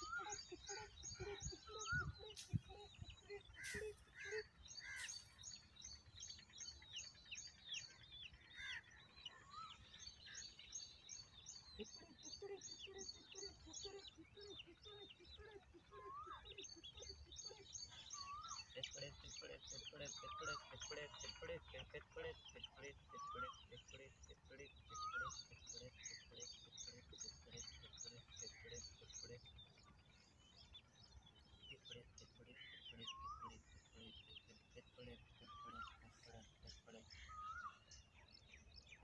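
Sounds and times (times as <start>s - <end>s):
birds chirping and whistling: 0.0s - 21.7s, 22.4s - 39.0s.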